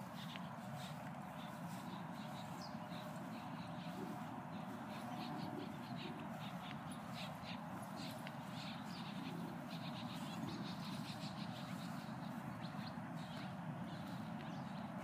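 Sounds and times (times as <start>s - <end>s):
birds chirping: 0.0s - 15.0s
low background noise: 0.0s - 15.0s.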